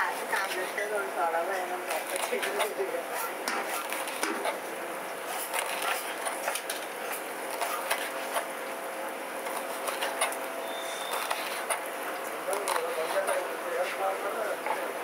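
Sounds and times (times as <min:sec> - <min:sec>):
street background hum: 0:00.0 - 0:15.0.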